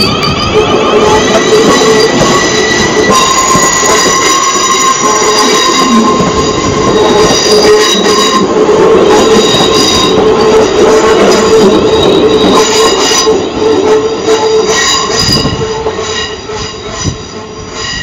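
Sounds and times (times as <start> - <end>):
rumble of train coaches: 0.0 - 18.0
train wheels squealing: 0.0 - 18.0.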